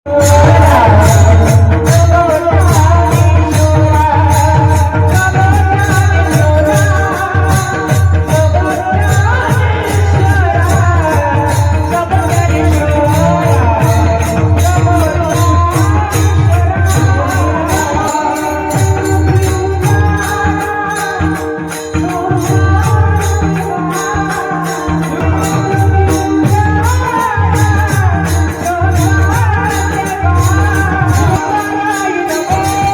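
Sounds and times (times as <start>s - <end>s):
solo voice singing: 0.1s - 32.9s
steady held tones: 0.1s - 32.9s.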